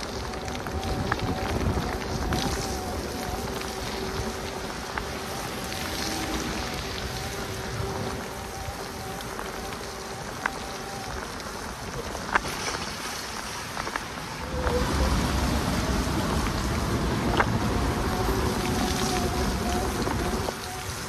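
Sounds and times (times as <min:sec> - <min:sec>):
electric bike motor whirring: 0:00.0 - 0:21.0
tyres hissing on wet path: 0:00.0 - 0:21.0.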